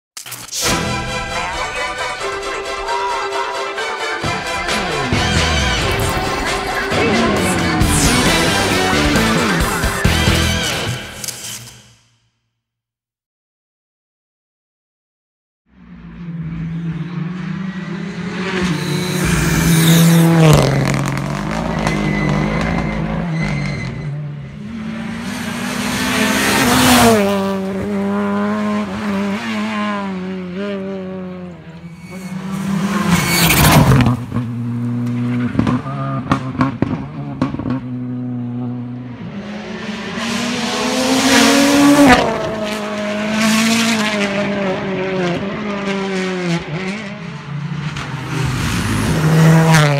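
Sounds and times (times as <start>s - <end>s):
rally car engines revving: 0.6s - 11.1s, 15.7s - 49.9s.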